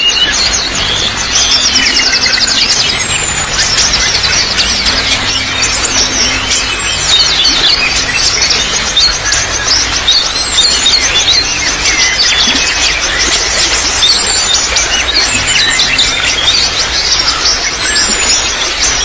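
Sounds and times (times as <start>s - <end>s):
small birds chirping: 0.0s - 19.0s
trickling water: 0.0s - 19.0s.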